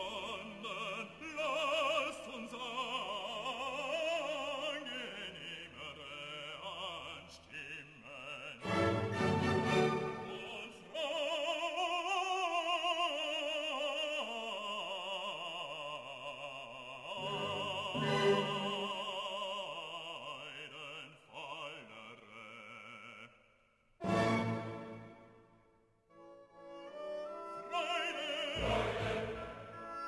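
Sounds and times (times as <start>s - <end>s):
operatic singing: 0.0s - 23.4s, 26.4s - 30.0s.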